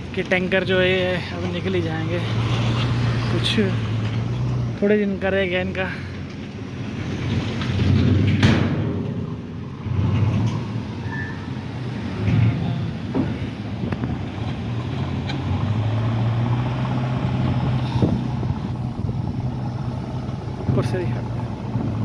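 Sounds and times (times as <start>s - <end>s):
low engine hum: 0.0s - 22.0s
road noise: 0.0s - 22.0s.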